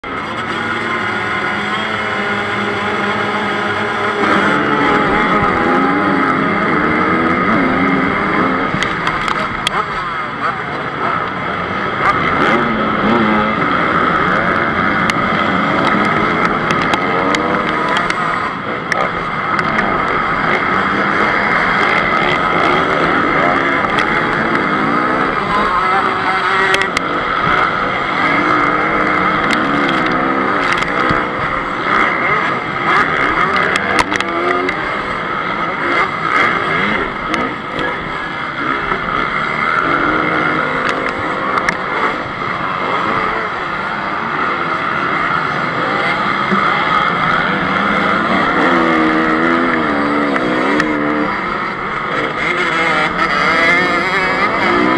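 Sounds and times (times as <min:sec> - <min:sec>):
motocross bikes racing: 0:00.0 - 0:54.9
motorcycle engine revving: 0:00.0 - 0:54.9.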